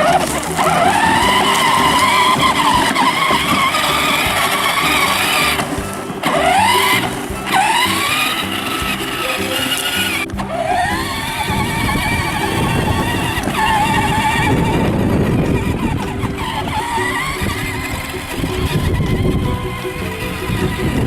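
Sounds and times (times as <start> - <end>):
electronic engine sound revving: 0.0 - 21.0.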